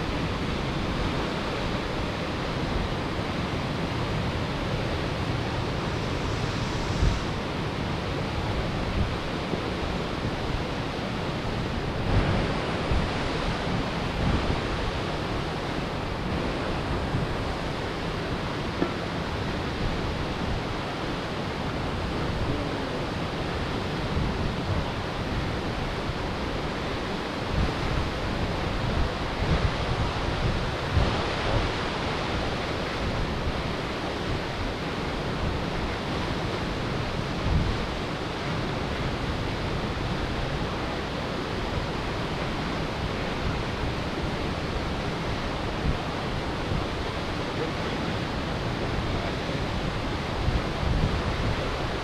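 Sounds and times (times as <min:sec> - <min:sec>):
waterfall roaring: 0:00.0 - 0:52.0
wind buffeting microphone: 0:00.0 - 0:52.0.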